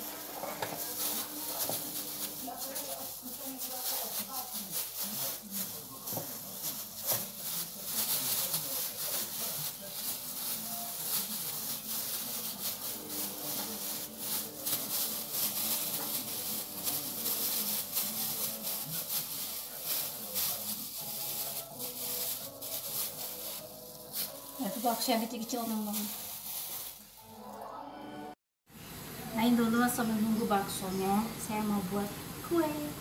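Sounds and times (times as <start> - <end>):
plastic gloves crinkling: 0.0 - 27.3.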